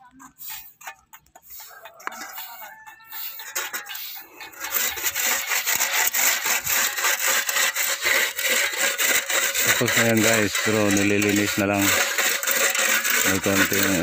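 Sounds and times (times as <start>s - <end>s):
hand tool scraping concrete: 0.0s - 14.0s.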